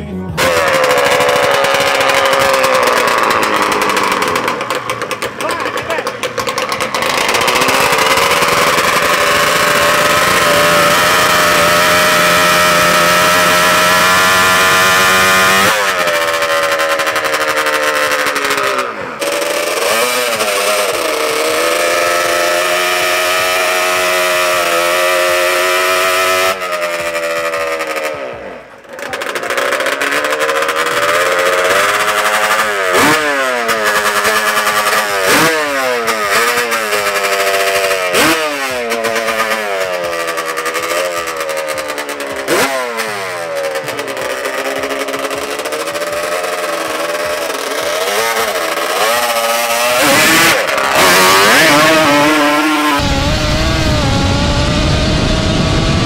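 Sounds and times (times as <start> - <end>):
drag racing engines revving: 0.0 - 56.0.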